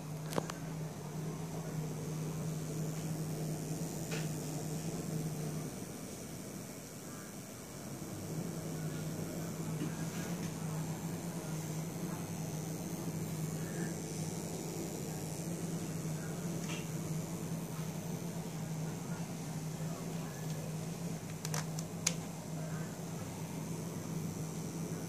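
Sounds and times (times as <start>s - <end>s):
power supply low hum and whine: 0.0s - 25.0s.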